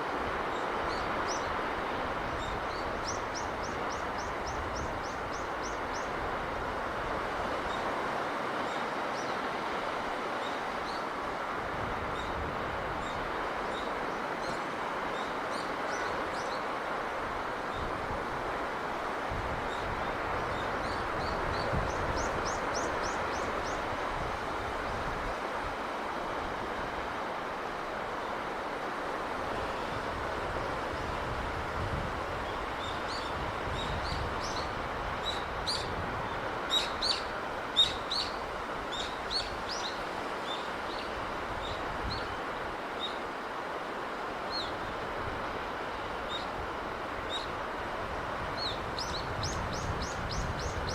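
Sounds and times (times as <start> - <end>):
sea rushing: 0.0 - 50.9.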